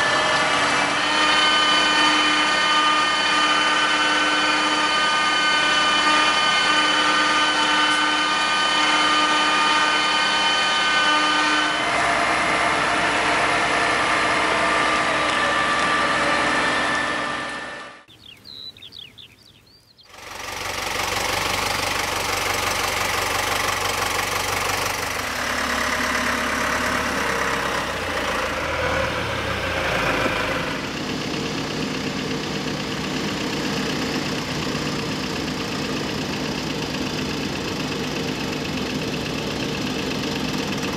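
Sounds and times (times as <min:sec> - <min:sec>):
harvester engine and conveyor hum: 0:00.0 - 0:40.9
tractor engine rumbling: 0:00.0 - 0:40.9.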